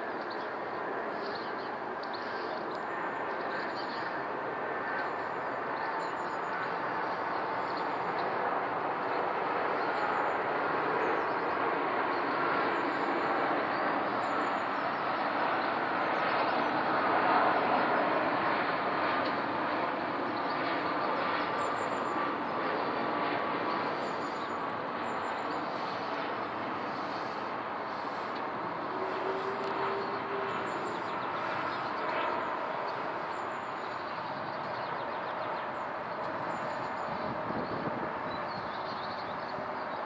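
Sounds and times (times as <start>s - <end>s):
jet airliner passing overhead: 0.0s - 40.0s.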